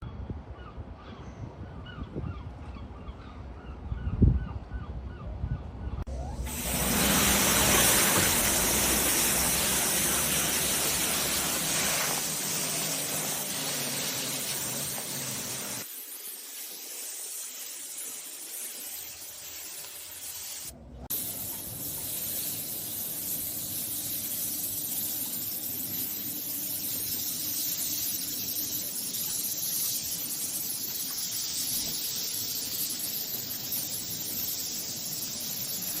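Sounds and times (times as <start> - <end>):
pressure washer spraying water: 6.2 - 36.0.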